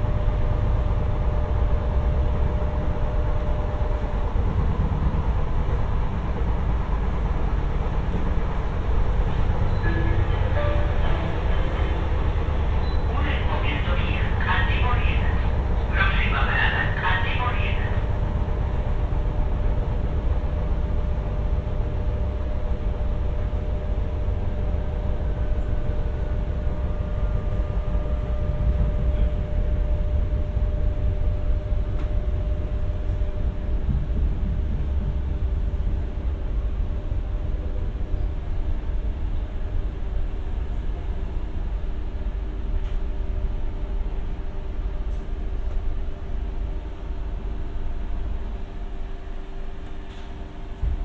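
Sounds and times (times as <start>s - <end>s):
electrical hum tones: 0.0s - 51.0s
train wheels rumbling on track: 0.0s - 51.0s.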